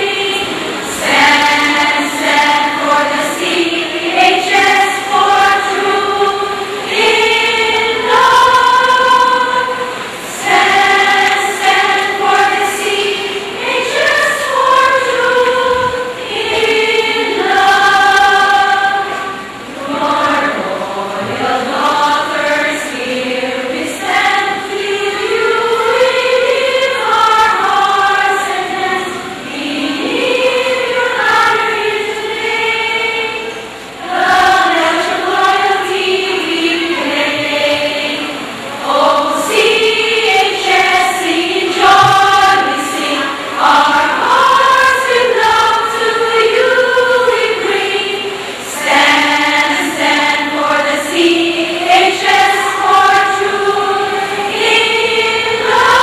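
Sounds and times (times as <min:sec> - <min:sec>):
women's choir singing: 0:00.0 - 0:56.0.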